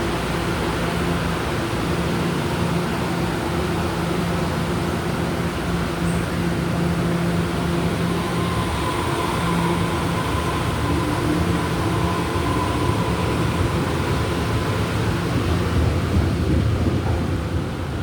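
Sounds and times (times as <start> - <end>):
train wheels rumbling on rail: 0.0 - 18.0
faint steady whine: 0.3 - 16.4.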